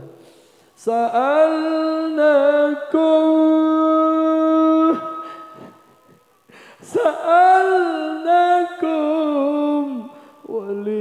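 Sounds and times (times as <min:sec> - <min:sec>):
man chanting through microphone: 0:00.0 - 0:11.0.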